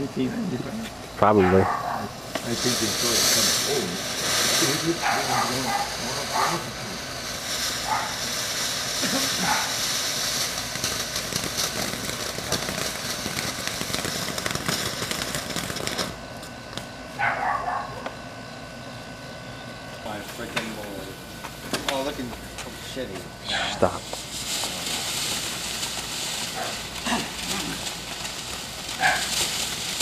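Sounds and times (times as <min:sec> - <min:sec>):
firework hissing and crackling: 0:00.0 - 0:18.2, 0:20.0 - 0:30.0.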